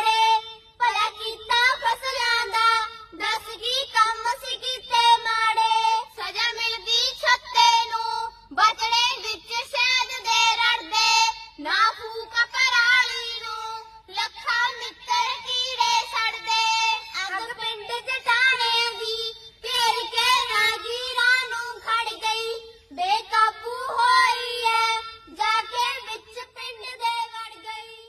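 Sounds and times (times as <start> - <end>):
girls singing into a microphone: 0.0 - 28.0.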